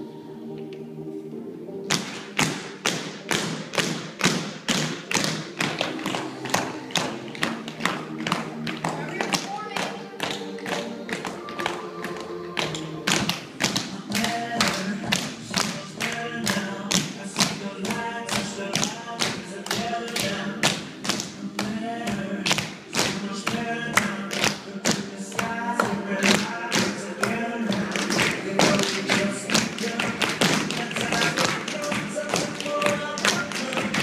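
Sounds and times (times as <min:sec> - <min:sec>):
recorded music with singing: 0:00.0 - 0:34.0
tap shoes tapping on floor: 0:01.9 - 0:21.8, 0:22.5 - 0:34.0.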